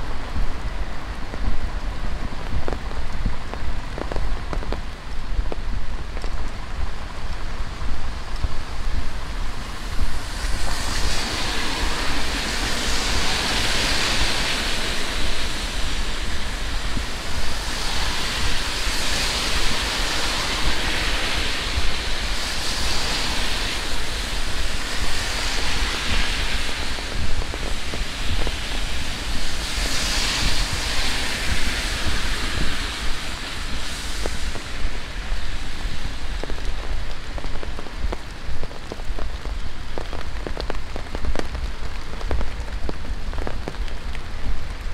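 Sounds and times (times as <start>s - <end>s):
heavy rain falling: 0.0s - 44.9s
raindrops pattering: 0.0s - 44.9s.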